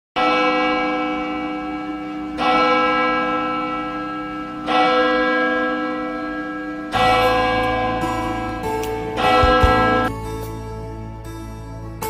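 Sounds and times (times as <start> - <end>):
church bell tolling: 0.2 - 10.3.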